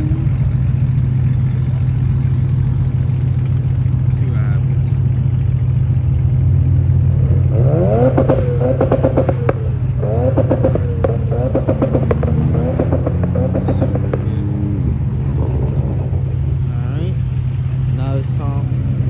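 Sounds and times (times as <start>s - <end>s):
engine revving with pops: 0.0s - 19.0s
idling engines hum: 0.0s - 19.0s.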